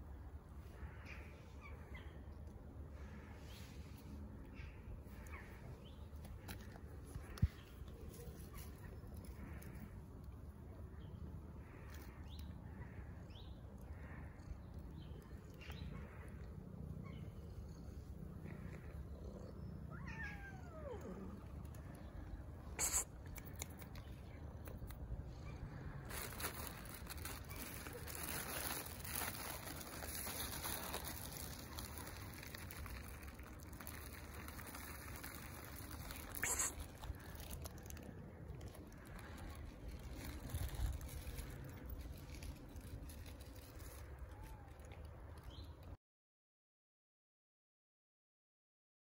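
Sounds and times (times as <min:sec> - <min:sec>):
faint street background noise: 0:00.0 - 0:46.0.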